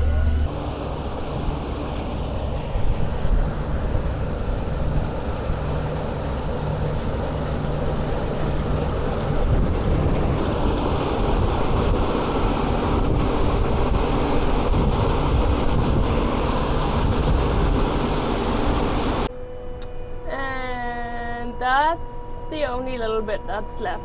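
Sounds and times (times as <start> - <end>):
harvest machinery engine drone: 0.0 - 21.3.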